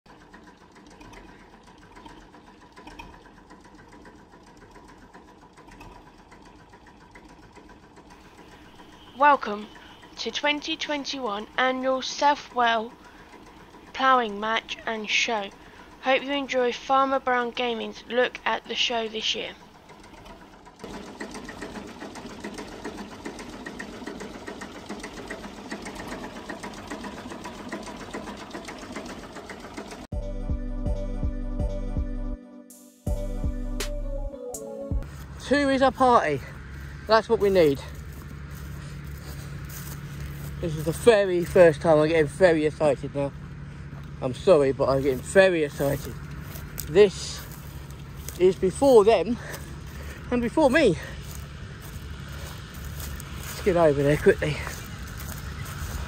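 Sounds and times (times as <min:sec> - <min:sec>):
faint engine ticking: 0:00.1 - 0:30.1, 0:35.0 - 0:56.0.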